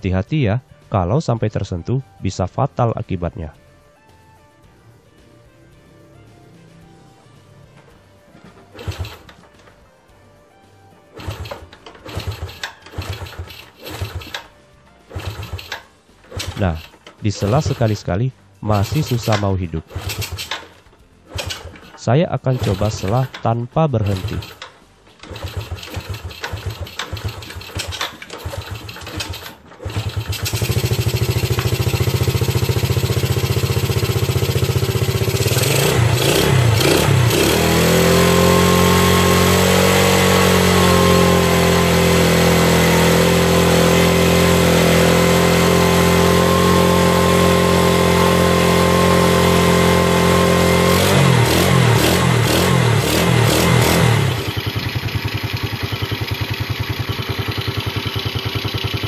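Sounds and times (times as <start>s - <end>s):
motorcycle engine running: 5.1s - 9.7s, 11.0s - 59.0s
motorcycle being kick-started: 7.7s - 9.9s, 11.1s - 18.0s, 18.7s - 59.0s.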